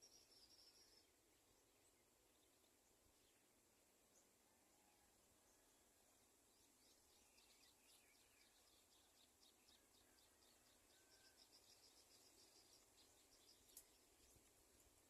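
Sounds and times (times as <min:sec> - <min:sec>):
faint high bird chirps: 0:00.0 - 0:03.5, 0:04.1 - 0:14.5.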